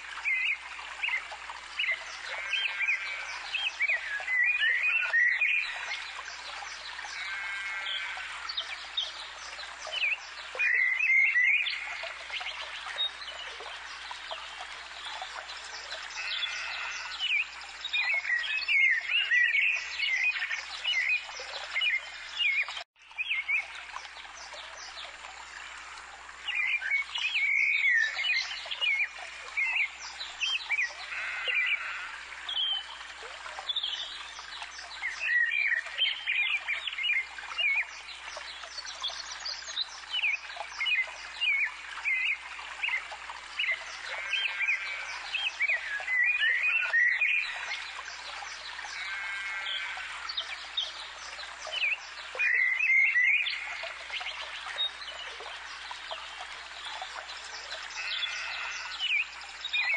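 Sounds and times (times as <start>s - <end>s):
songbirds chirping: 0.3s - 59.9s.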